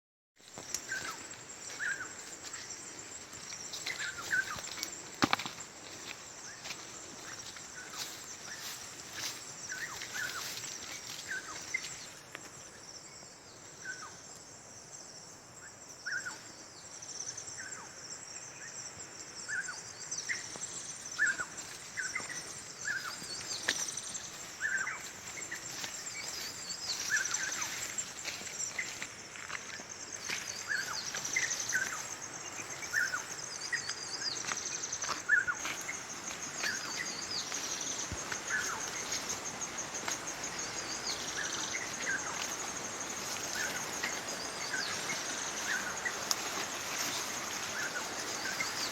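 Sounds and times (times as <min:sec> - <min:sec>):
high-pitched insect drone: 0:00.4 - 0:12.3, 0:19.4 - 0:48.9.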